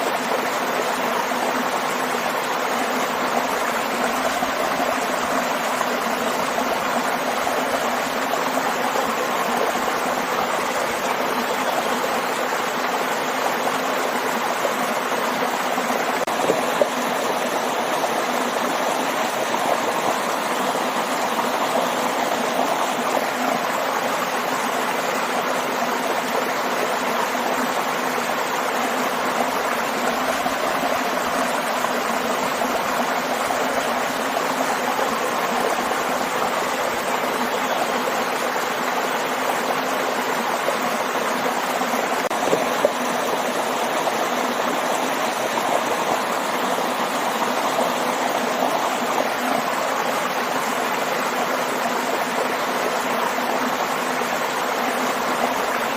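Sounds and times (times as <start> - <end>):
water rushing and splashing: 0.0 - 55.9.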